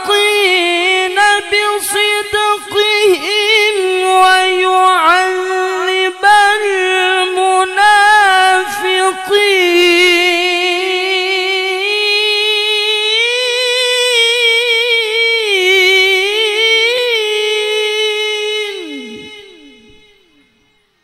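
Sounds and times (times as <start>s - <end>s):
man reciting melismatic chant: 0.0s - 20.8s.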